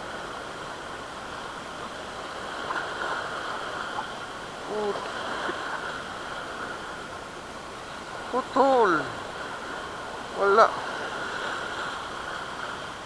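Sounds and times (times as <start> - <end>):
surf fizzing over rocks: 0.0 - 13.0.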